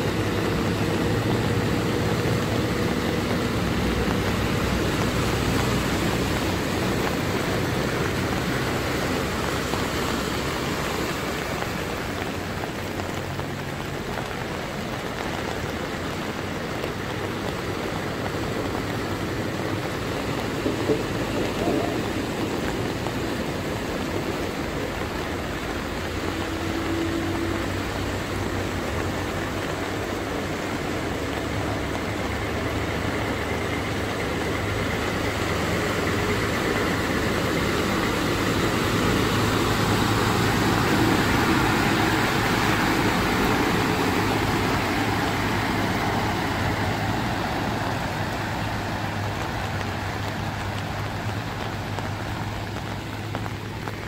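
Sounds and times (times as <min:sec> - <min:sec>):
rain and running water: 0:00.0 - 0:54.0
truck engine running: 0:00.0 - 0:54.0
water washing off wheels: 0:00.0 - 0:54.0.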